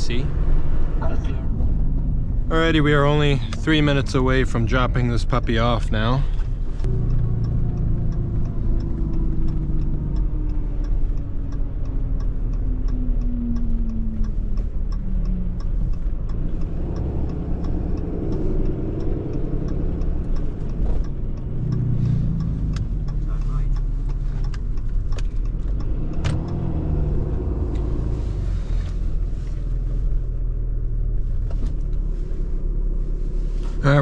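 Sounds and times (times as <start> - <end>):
turn signal ticking: 0.0 - 34.0.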